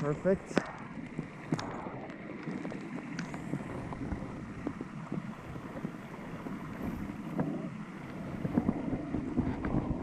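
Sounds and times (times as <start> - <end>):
creek flowing: 0.0 - 10.0
wind buffeting microphone: 0.0 - 10.0.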